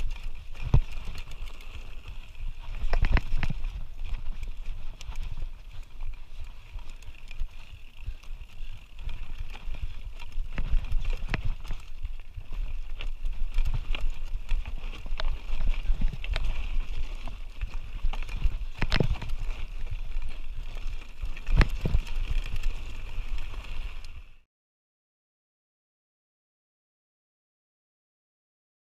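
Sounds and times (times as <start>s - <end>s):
bike knocking on rocks: 0.0s - 23.5s
tyres crunching over gravel: 0.0s - 24.2s
wind rumble on microphone: 0.0s - 24.4s.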